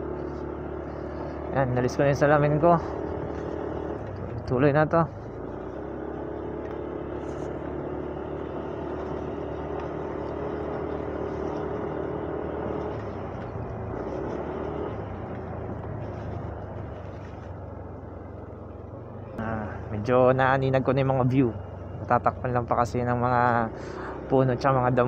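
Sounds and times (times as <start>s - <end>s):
road noise: 0.0s - 25.0s
scooter engine running: 0.0s - 25.0s.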